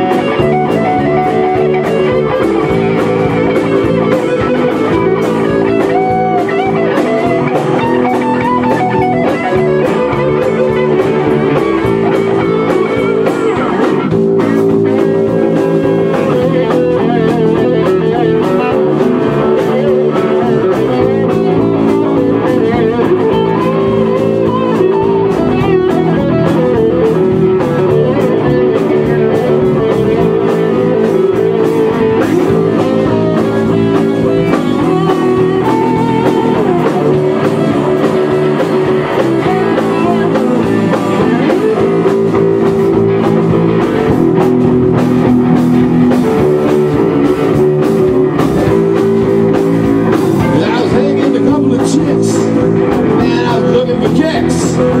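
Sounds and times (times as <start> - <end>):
lead guitar with bent notes: 0.0 - 55.0
live rock band playing: 0.0 - 55.0.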